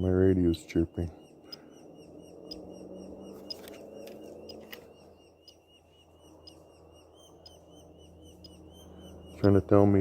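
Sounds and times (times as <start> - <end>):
nestling birds begging chirps: 0.0 - 10.0.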